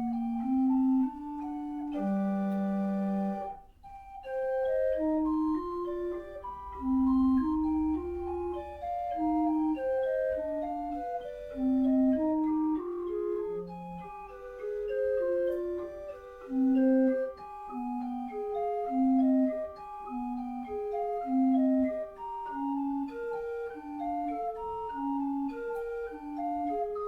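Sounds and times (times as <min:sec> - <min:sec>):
chamber organ playing: 0:00.0 - 0:27.0.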